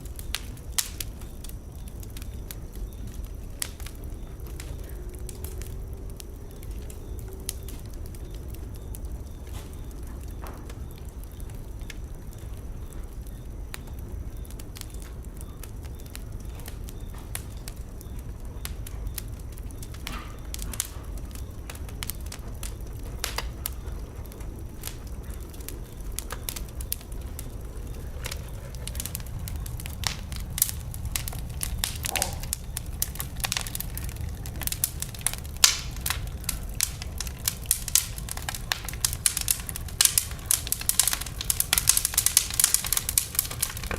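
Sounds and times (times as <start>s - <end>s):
fire crackling and popping: 0.0s - 43.9s
fire low rumble: 0.0s - 43.9s.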